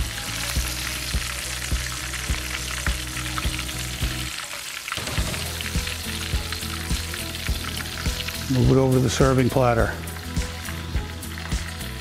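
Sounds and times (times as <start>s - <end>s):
background music with beat: 0.0s - 4.4s, 5.1s - 12.0s
oil sizzling in a wok: 0.0s - 12.0s.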